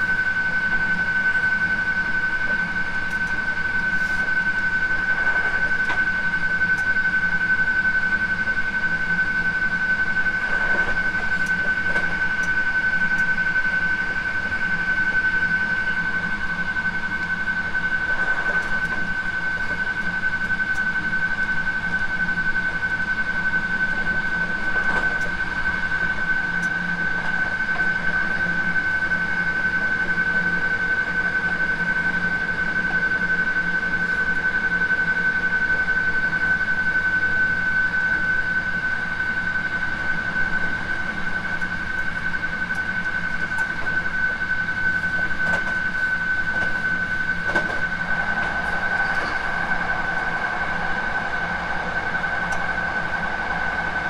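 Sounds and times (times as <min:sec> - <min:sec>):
electric train rumble and whine: 0:00.0 - 0:54.0.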